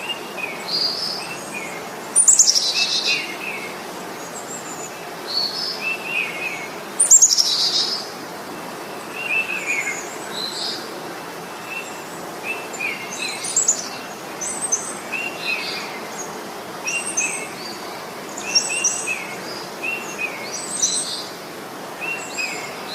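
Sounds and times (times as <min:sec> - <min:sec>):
outdoor background hiss: 0:00.0 - 0:22.9
songbirds chirping: 0:00.0 - 0:22.9.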